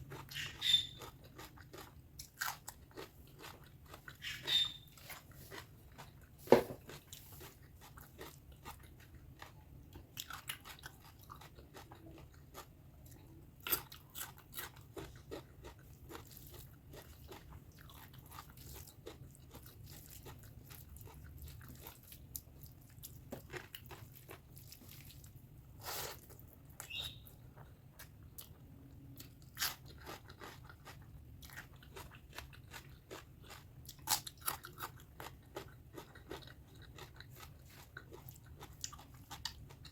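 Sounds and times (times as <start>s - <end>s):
close-miked chewing and biting: 0.0s - 39.9s.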